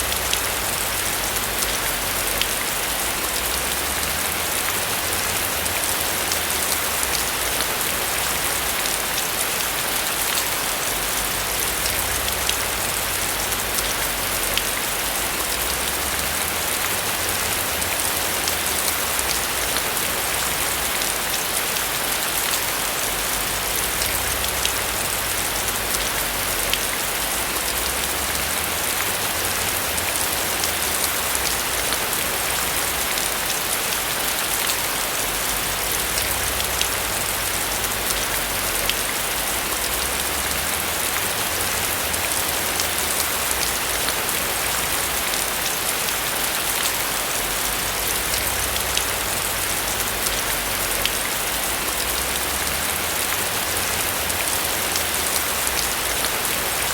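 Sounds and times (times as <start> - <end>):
rain falling on a roof: 0.0 - 56.9.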